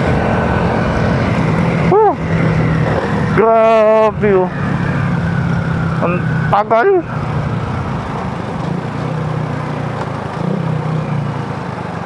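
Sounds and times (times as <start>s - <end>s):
motorcycle engine humming: 0.0s - 12.0s
road and wind noise: 0.0s - 12.0s.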